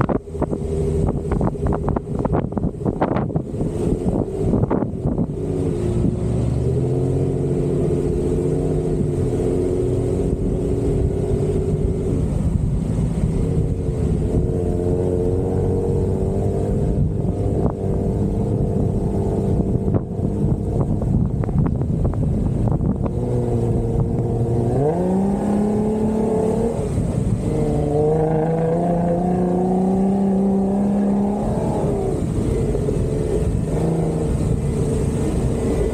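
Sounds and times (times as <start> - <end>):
engine running under load: 0.0 - 35.9.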